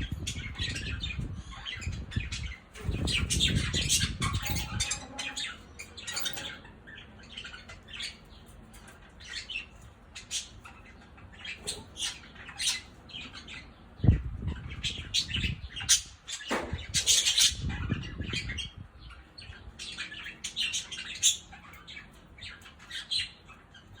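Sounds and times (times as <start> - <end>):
budgerigars chirping and squawking: 0.0 - 24.0.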